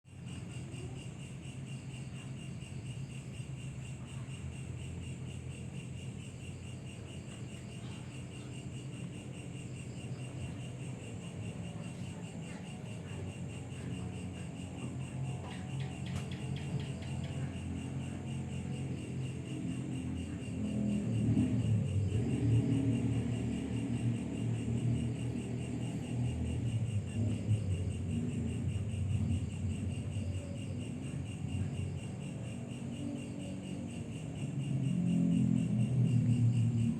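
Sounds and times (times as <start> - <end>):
insects trilling: 0.1 - 36.9.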